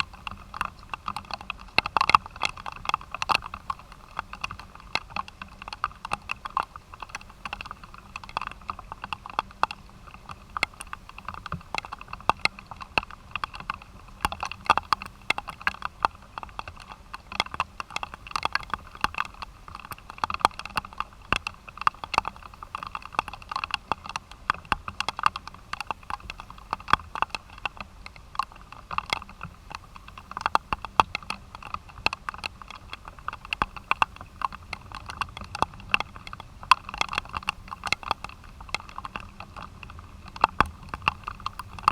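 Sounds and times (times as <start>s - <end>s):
rain on a hard surface: 0.0s - 41.9s.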